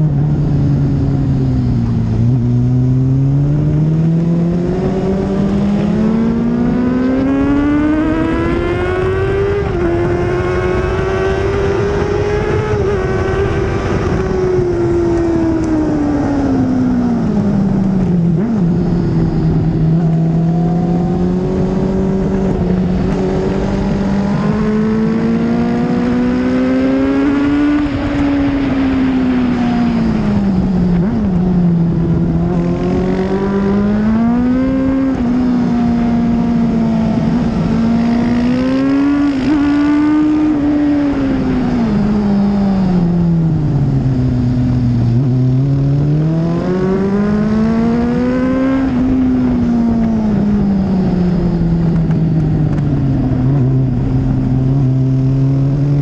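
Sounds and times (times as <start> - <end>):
motorcycle engine running hard: 0.0 - 56.0
wind rush: 0.0 - 56.0.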